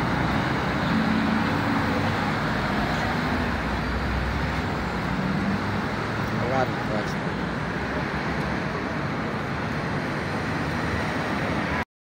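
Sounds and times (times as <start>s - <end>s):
road traffic: 0.0s - 11.9s.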